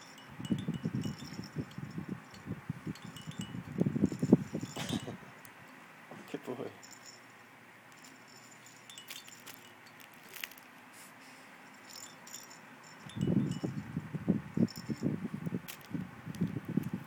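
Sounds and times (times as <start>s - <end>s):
hanging toys jingling: 0.0s - 5.4s, 6.3s - 10.7s, 11.5s - 13.9s, 14.5s - 17.0s.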